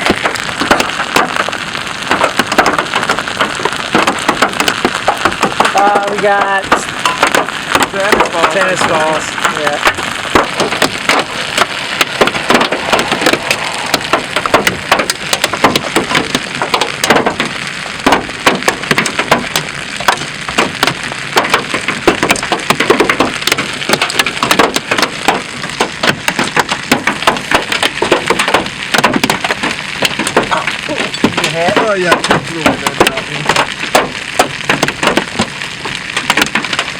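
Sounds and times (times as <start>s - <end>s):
hail knocking on a vehicle: 0.0s - 36.9s
rain hissing: 0.0s - 36.9s.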